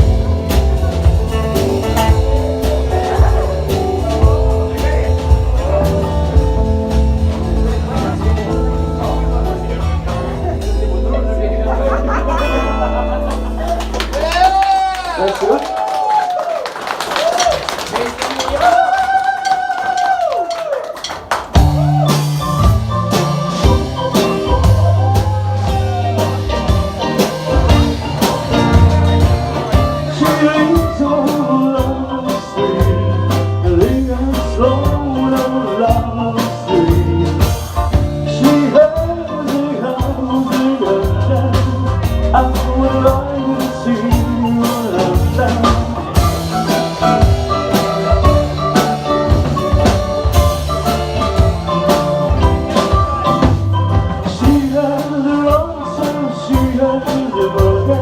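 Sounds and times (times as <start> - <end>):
lead guitar with bending notes: 0.0 - 14.6, 21.6 - 58.0
bass line: 0.0 - 16.2, 21.5 - 58.0
drum kit steady beat: 0.0 - 58.0
rock band playing: 0.0 - 58.0.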